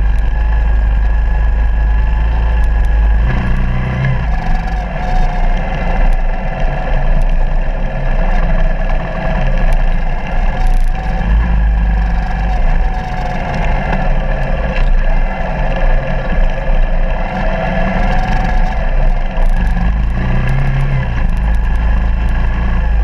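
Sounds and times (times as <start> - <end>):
heavy low rumble: 0.0 - 23.0
motorcycle engine running: 0.0 - 23.0.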